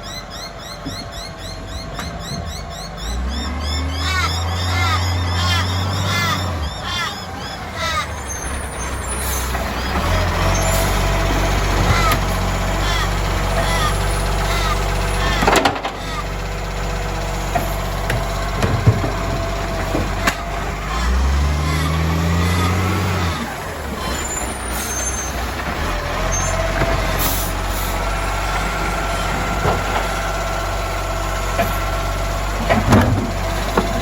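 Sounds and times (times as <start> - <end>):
garbage truck diesel engine: 0.0 - 34.0.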